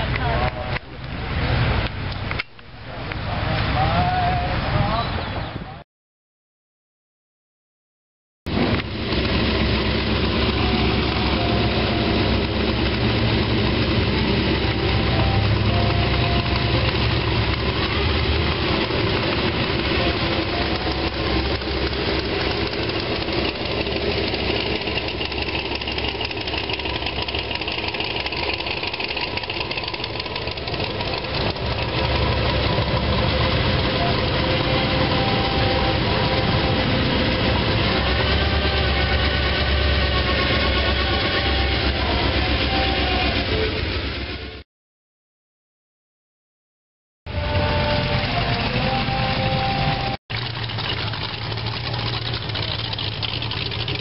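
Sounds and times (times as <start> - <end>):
car engines idling: 0.0 - 5.4, 8.5 - 44.6, 47.3 - 54.0.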